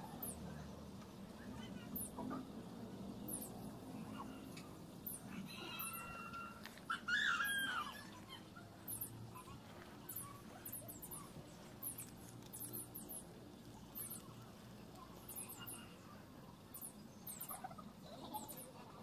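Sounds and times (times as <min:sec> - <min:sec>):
faint low hum: 0:00.0 - 0:19.0
small birds chirping: 0:00.0 - 0:19.0.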